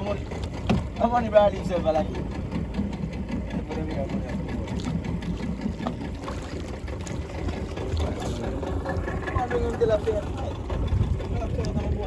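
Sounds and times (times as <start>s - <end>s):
outboard motor chugging: 0.0s - 12.0s.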